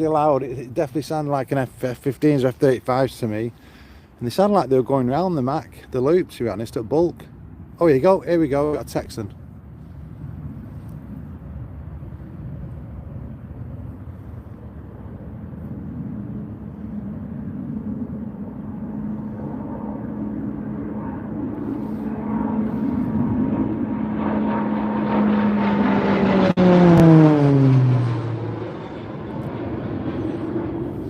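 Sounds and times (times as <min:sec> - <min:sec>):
turboprop aircraft flying past: 0:00.0 - 0:31.0.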